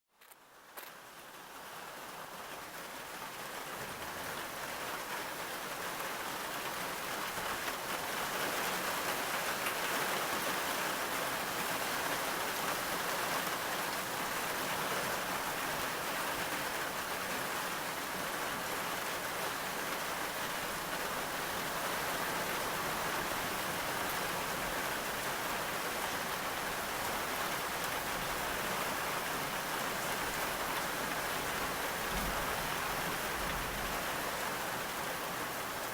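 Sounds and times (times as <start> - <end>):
steady rainfall: 0.4 - 35.9.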